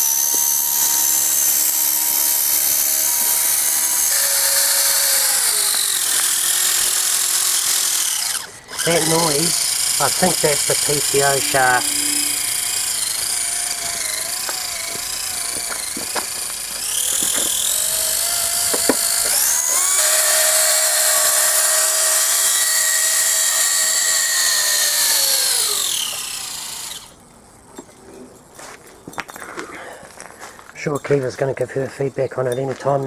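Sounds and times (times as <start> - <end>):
electric motor drivetrain whine: 0.0 - 27.2.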